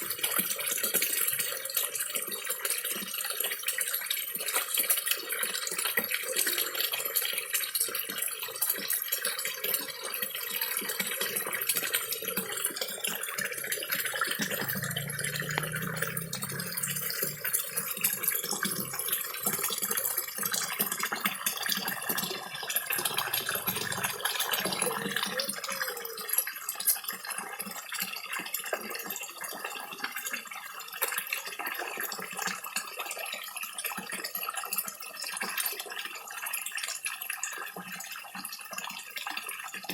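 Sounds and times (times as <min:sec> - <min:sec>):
small waterfall trickling: 0:00.0 - 0:39.9.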